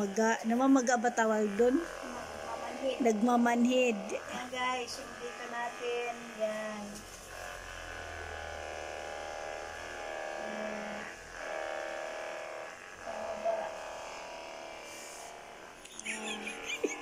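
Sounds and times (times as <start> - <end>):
massage gun motor buzz: 0.0 - 17.0.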